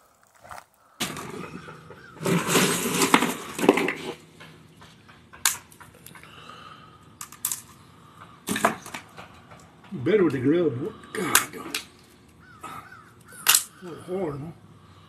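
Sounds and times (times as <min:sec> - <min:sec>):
crabs clattering and scraping: 0:00.0 - 0:14.2.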